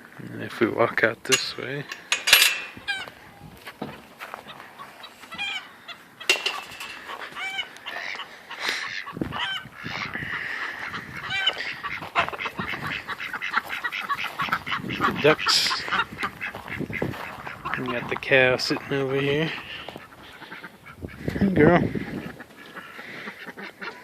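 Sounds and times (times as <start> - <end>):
ducks quacking: 0.5 - 24.0.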